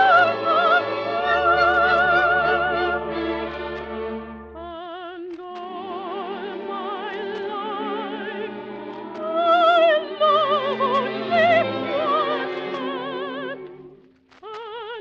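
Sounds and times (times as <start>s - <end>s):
orchestra playing operetta: 0.0s - 4.8s, 5.7s - 14.0s.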